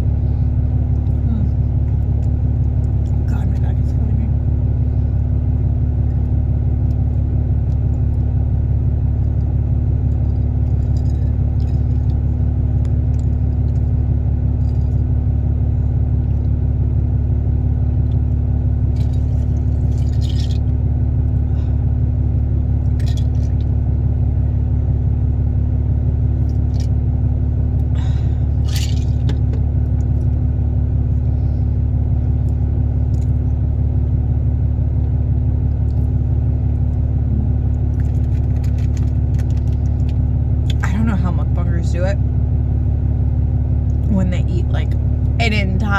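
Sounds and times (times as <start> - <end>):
low mechanical hum: 0.0 - 45.9.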